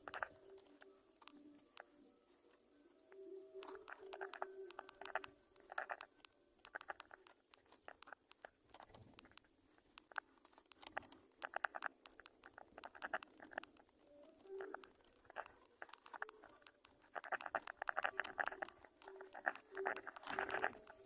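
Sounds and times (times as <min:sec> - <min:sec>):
small birds clicking chips: 0:00.0 - 0:21.0.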